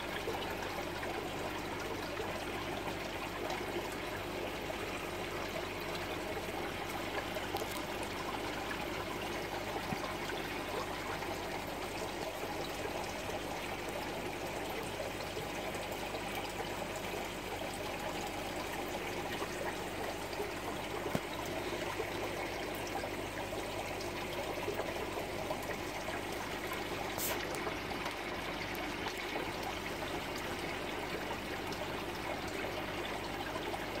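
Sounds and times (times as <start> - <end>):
aquarium water trickling: 0.0 - 34.0
faint steady hum: 0.0 - 34.0.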